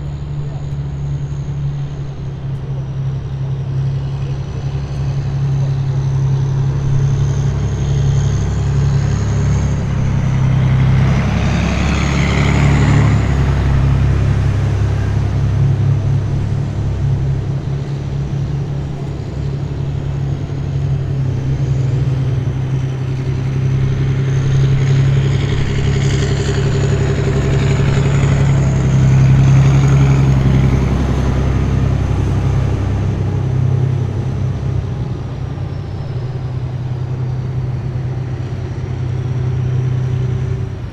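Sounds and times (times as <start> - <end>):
heavy vehicle engines droning: 0.0 - 40.9
vehicle high whine: 0.0 - 40.9.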